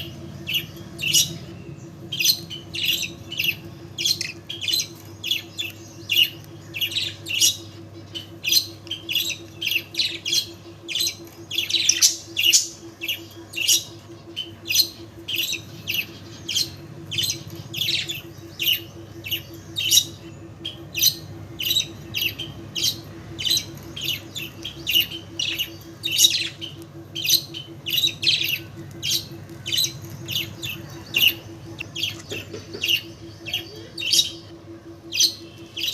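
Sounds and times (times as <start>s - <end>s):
bird high-pitched calls: 0.0s - 35.9s
low hum: 0.0s - 35.9s.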